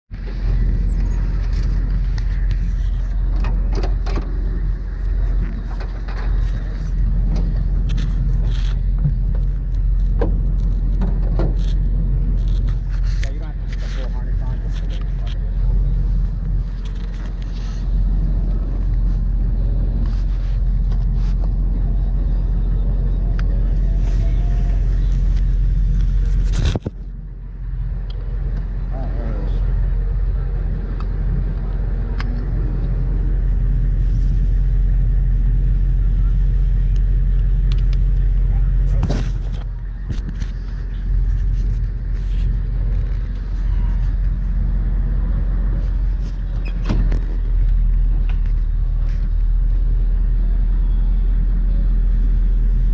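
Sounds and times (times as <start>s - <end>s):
car engine rumbling: 0.0s - 52.9s
road noise: 0.0s - 52.9s.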